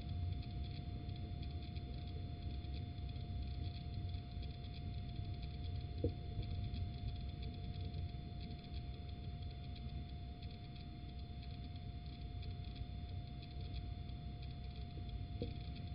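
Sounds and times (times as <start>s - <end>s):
electronic hum and rumble: 0.0s - 15.9s.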